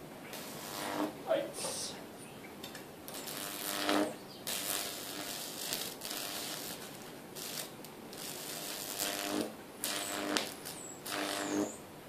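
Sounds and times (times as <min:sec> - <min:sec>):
high-voltage arcing crackling: 0:00.0 - 0:01.4, 0:02.6 - 0:11.8.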